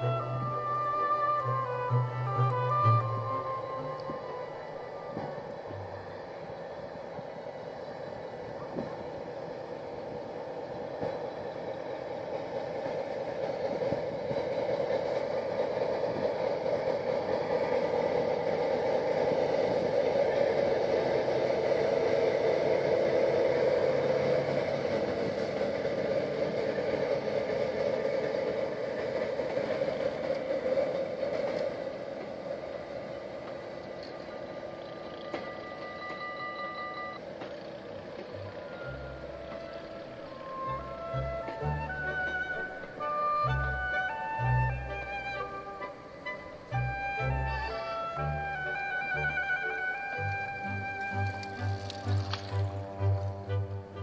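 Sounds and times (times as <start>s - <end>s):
diesel locomotive engine: 0.0s - 54.0s
train wheels on rails: 0.0s - 54.0s.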